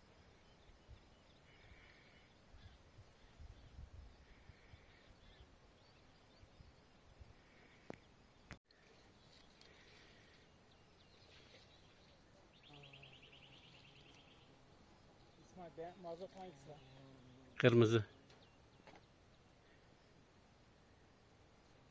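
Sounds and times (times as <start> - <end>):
distant bird calls: 0.0 - 21.8.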